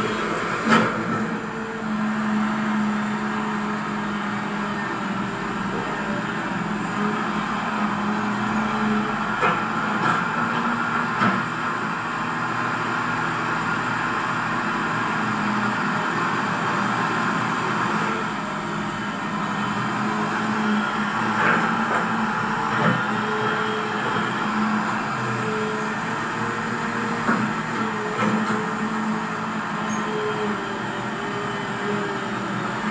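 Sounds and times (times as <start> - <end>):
model excavator motors whining: 0.0 - 32.9.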